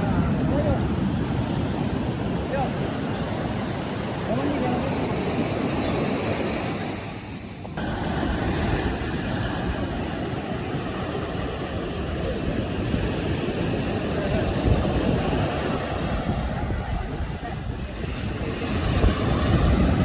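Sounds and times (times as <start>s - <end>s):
sea surf washing on beach: 0.0s - 20.0s
wind buffeting microphone: 0.0s - 20.0s.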